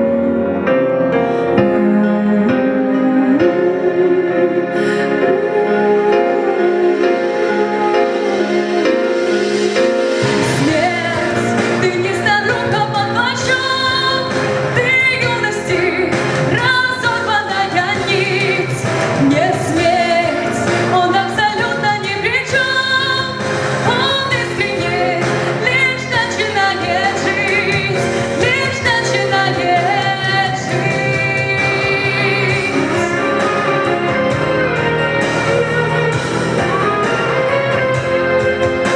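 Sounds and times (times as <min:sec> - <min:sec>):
slow ballad accompaniment: 0:00.0 - 0:38.9
wavering lead melody: 0:00.0 - 0:38.9.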